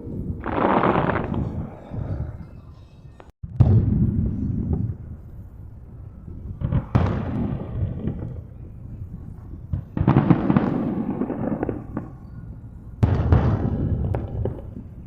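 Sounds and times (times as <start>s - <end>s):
fireworks crackling: 0.0s - 2.4s, 3.6s - 15.0s
fireworks bursting: 0.0s - 15.0s.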